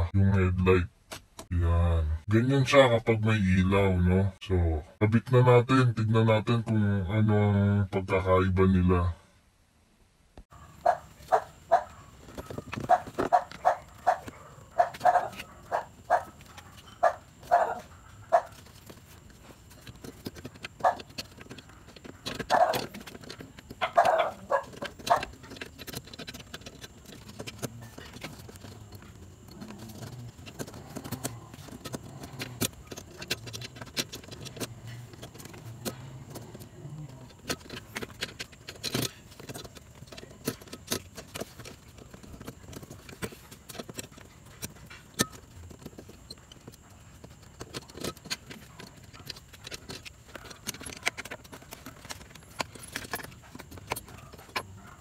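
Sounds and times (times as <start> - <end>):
plastic parts clicking and rattling: 10.8 - 55.0.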